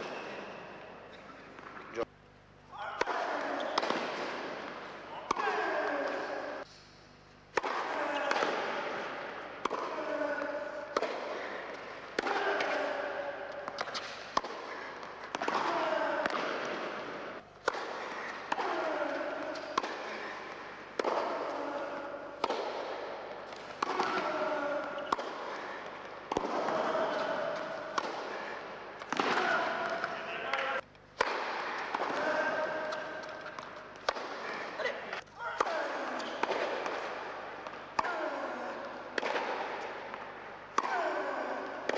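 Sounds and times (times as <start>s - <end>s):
tennis racquets hitting ball: 2.8s - 6.9s, 7.5s - 41.9s.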